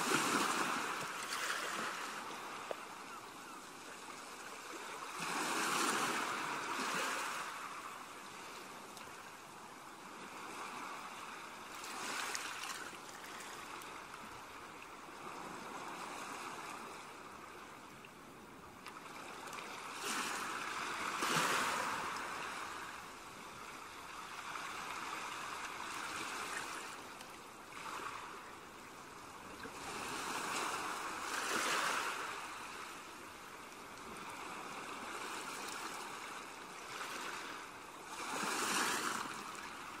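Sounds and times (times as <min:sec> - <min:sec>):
sea waves on a sandy beach: 0:00.0 - 0:40.0.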